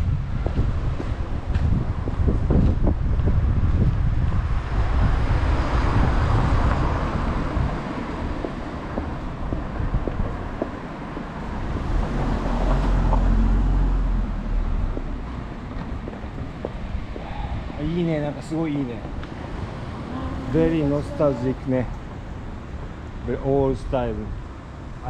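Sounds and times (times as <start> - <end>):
cars passing: 0.0 - 25.0
wind rumbling on microphone: 0.0 - 25.0.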